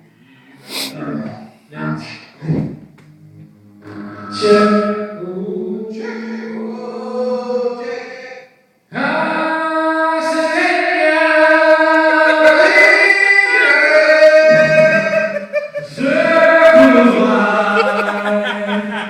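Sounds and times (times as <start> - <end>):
person singing long notes: 3.2 - 19.0.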